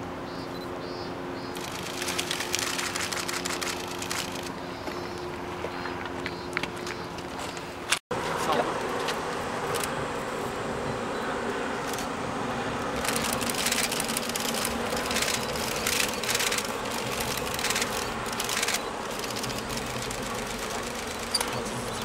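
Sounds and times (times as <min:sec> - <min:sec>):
diesel railcar engines droning: 0:00.0 - 0:22.0.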